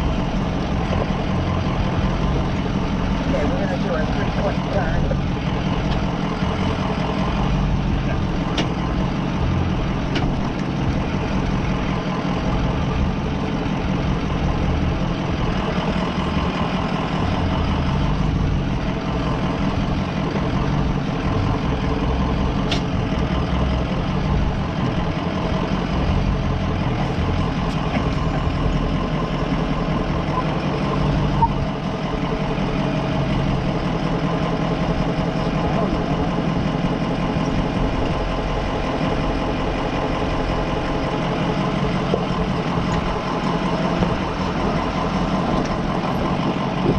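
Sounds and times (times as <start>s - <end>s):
van engine running at low revs: 0.0s - 46.9s.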